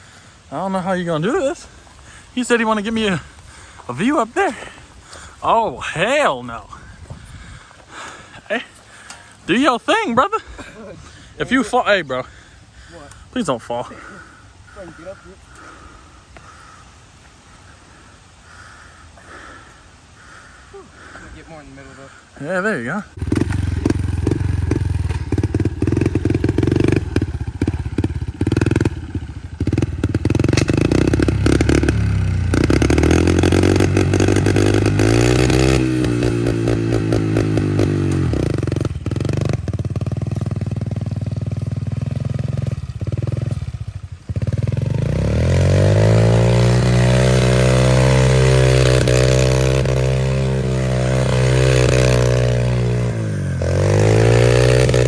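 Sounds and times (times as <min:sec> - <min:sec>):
pit bike engine revving: 0:00.0 - 0:16.8, 0:23.1 - 0:55.0.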